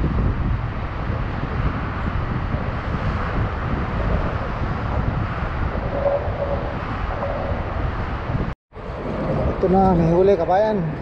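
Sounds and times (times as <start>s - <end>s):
road traffic noise: 0.0s - 11.0s
wind buffeting microphone: 0.0s - 11.0s.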